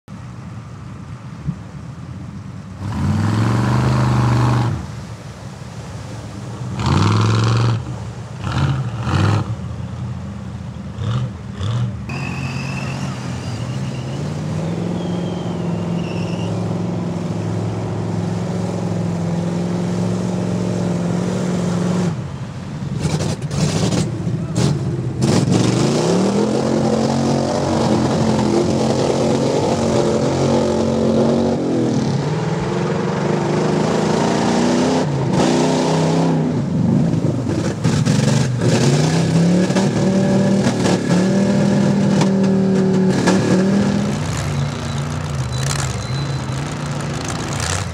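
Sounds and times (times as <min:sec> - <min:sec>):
off-road vehicle engines revving: 0:02.6 - 0:47.9.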